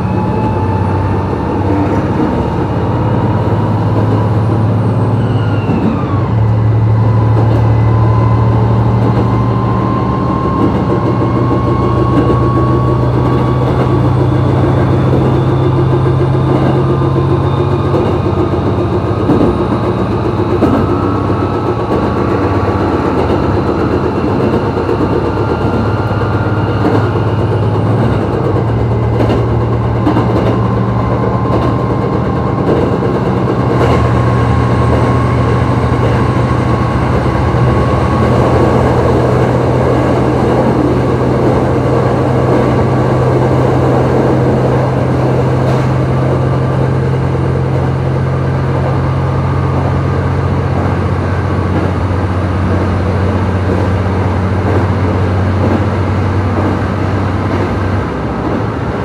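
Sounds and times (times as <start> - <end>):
diesel railcar engine droning: 0.0 - 59.0
train running noise: 0.0 - 59.0.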